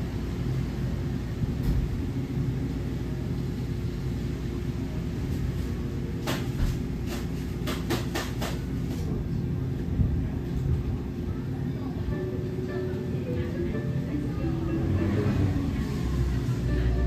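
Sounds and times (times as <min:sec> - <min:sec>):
low store ambience rumble: 0:00.0 - 0:17.0.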